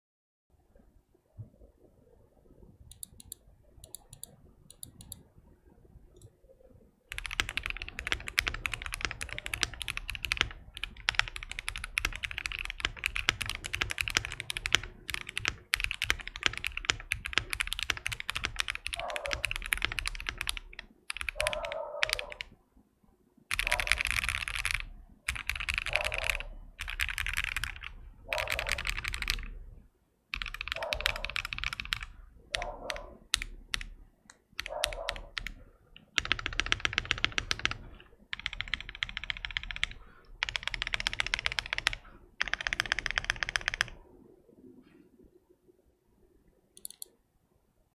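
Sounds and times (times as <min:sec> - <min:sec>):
mechanical keyboard typing: 0:02.9 - 0:05.2, 0:07.1 - 0:22.6, 0:23.5 - 0:44.0, 0:46.8 - 0:47.1.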